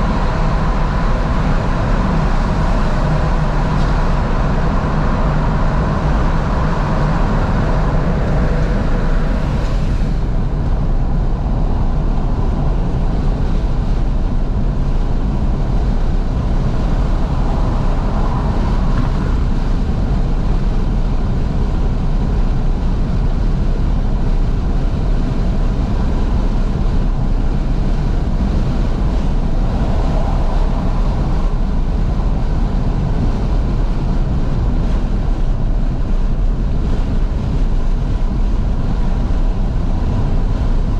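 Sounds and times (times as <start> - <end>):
car engine running: 0.0 - 40.9
road and wind noise in car: 0.0 - 40.9.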